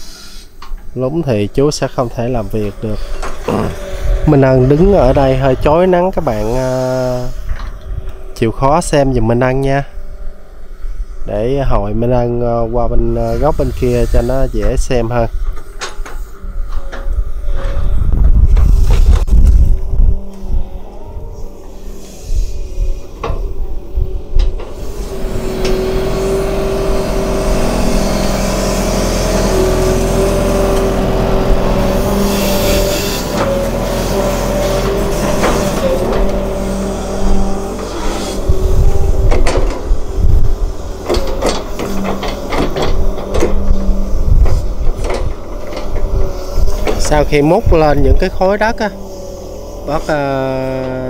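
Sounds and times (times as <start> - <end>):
excavator diesel engine working: 0.0 - 51.0.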